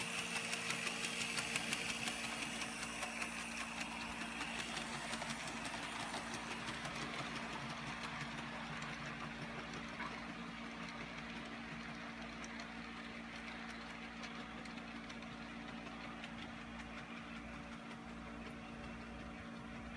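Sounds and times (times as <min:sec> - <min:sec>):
model train motor humming: 0:00.0 - 0:19.9
train wheels clicking on track: 0:00.0 - 0:19.9.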